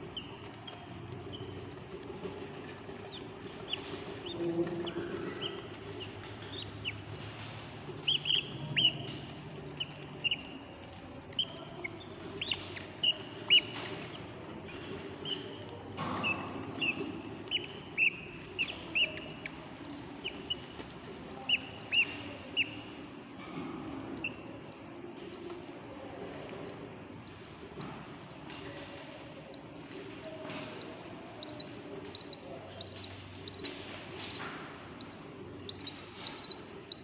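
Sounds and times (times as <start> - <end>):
faint low hum: 0.0 - 37.0
budgerigars chirping: 3.1 - 9.2, 11.4 - 15.6, 16.2 - 22.9, 24.2 - 37.0.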